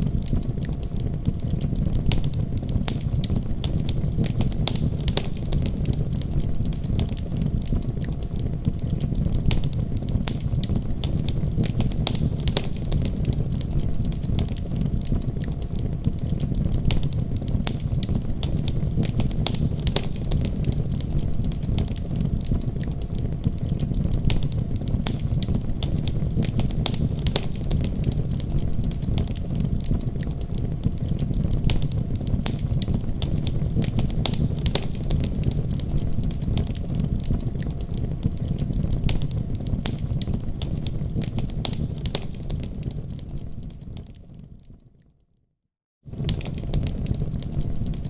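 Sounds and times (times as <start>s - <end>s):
fire flames rumbling: 0.0s - 44.8s, 46.0s - 48.0s
fire crackling and popping: 0.0s - 45.0s, 46.1s - 48.0s.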